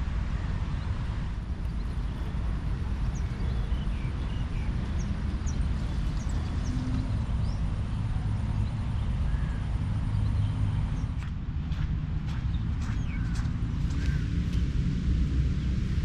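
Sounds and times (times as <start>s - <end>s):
steady low rumble: 0.0s - 16.0s
small birds chirping: 1.6s - 14.8s.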